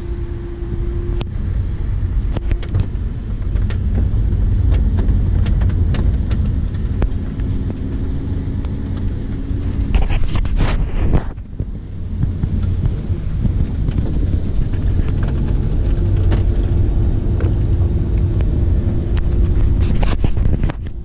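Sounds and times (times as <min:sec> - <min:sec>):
car engine running: 0:00.0 - 0:21.0
road and wind noise: 0:00.0 - 0:21.0
sharp clicks and knocks: 0:02.2 - 0:21.0.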